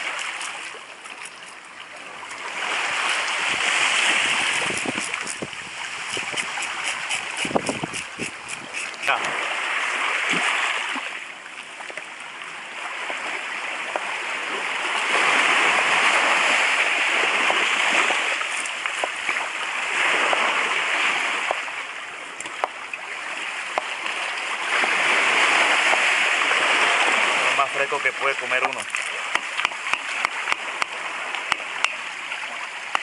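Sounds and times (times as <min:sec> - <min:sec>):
surf washing over pebbles: 0:00.0 - 0:11.3, 0:12.0 - 0:33.0.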